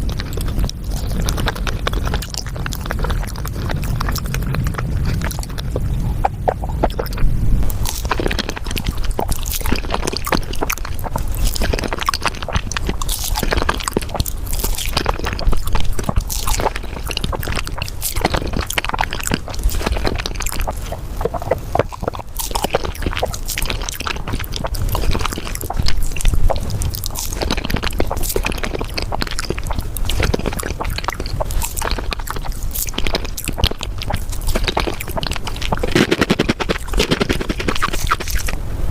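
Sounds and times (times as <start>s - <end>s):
sped up chewing sounds: 0.0s - 38.6s.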